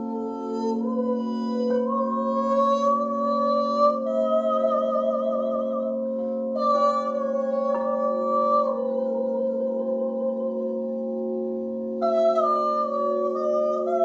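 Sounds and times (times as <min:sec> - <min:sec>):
singing bowls droning: 0:00.0 - 0:14.0
woman singing wordless notes: 0:00.0 - 0:14.0.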